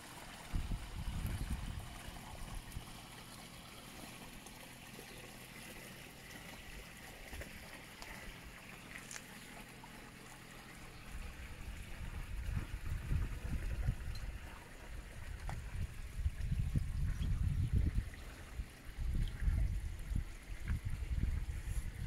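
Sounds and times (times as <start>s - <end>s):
water trickling faintly: 0.0s - 22.0s.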